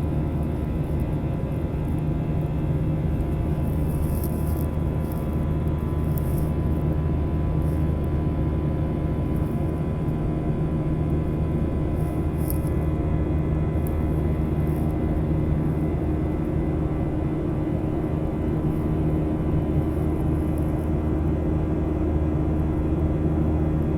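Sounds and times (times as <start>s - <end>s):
jet engine and airflow drone: 0.0s - 23.9s
steady humming tones: 0.0s - 23.9s.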